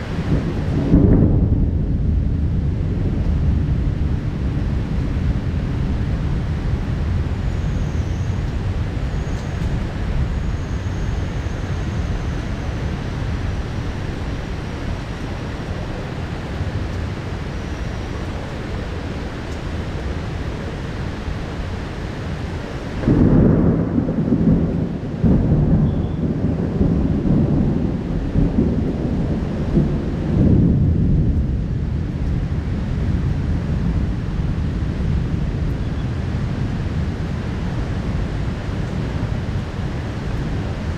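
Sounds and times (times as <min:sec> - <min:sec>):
heavy rain: 0:00.0 - 0:40.9
thunder rumbling: 0:00.0 - 0:40.9.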